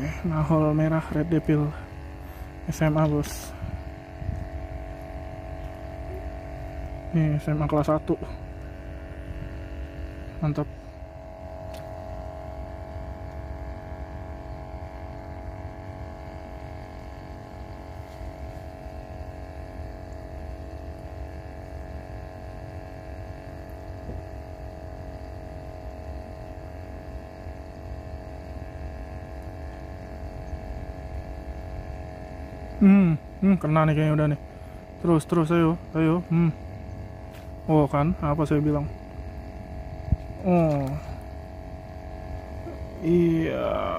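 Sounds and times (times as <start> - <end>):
hum of held tones: 0.0 - 43.9.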